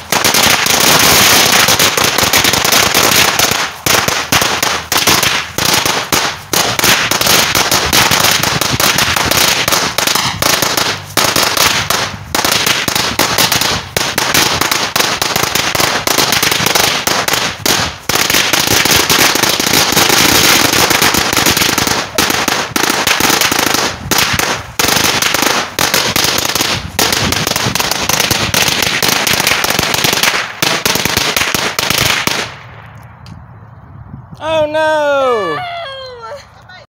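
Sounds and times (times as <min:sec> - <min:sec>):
firecrackers crackling: 0:00.0 - 0:33.4.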